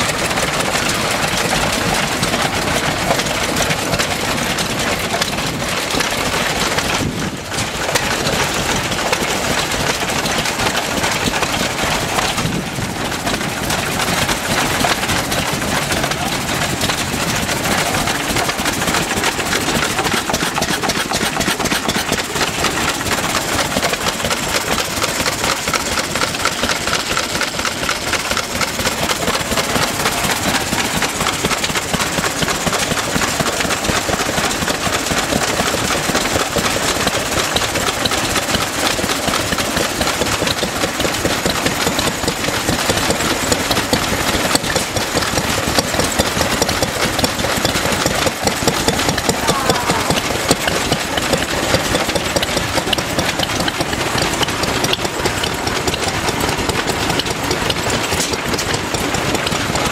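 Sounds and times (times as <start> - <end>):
stationary engines clattering: 0.0 - 59.9.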